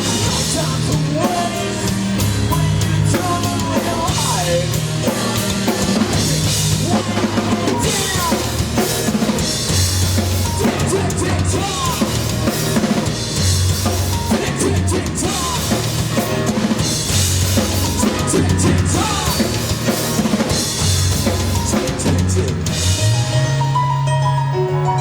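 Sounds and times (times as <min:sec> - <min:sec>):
drum kit with cymbals: 0:00.0 - 0:24.1
live band playing: 0:00.0 - 0:25.0.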